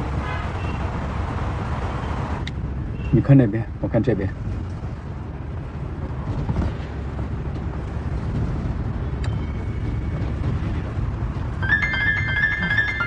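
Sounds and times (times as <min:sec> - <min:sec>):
car interior engine and road noise: 0:00.8 - 0:13.0.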